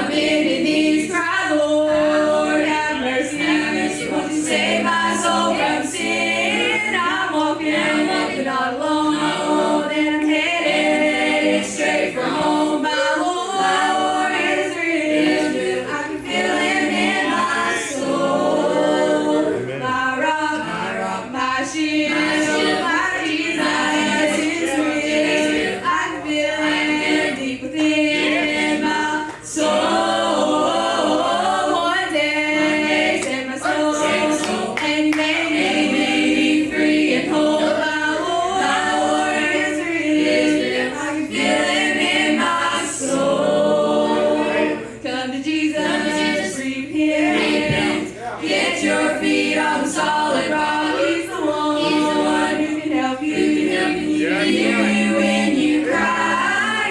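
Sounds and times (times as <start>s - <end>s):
group of young singers singing gospel: 0.0s - 56.9s.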